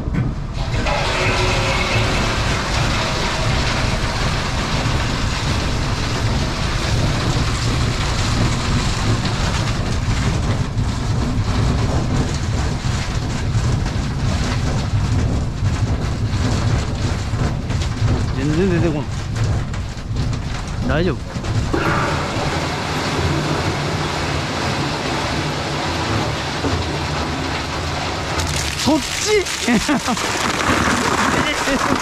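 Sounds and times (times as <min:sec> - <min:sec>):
continuous rattling clatter: 0:00.0 - 0:32.0
ice machine rumbling: 0:00.0 - 0:32.0.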